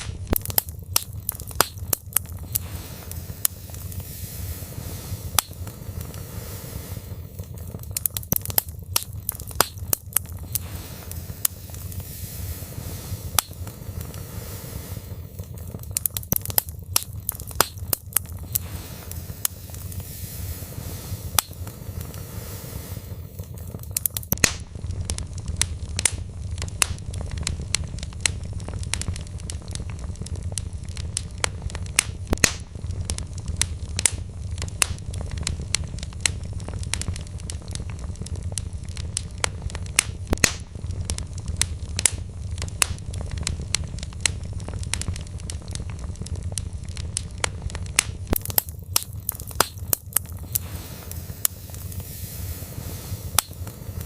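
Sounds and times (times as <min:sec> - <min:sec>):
logs crackling and popping: 0:00.0 - 0:54.0
low rumble of flames: 0:00.0 - 0:54.0.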